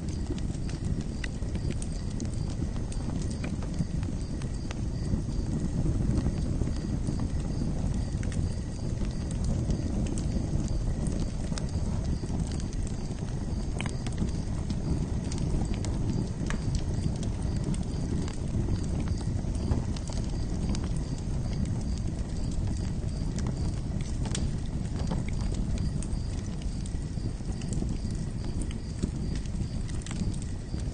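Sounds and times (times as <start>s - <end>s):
flames rumbling: 0.0s - 30.9s
wood crackling and popping: 0.0s - 30.9s.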